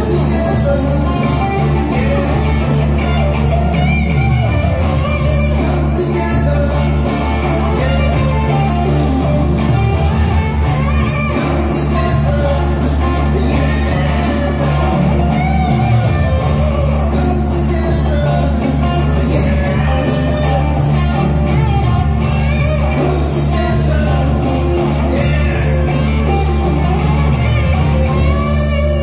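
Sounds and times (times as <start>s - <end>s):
bass guitar: 0.0s - 29.0s
drum kit beat: 0.0s - 29.0s
electric guitars: 0.0s - 29.0s
keyboard: 0.0s - 29.0s
person singing: 0.0s - 29.0s.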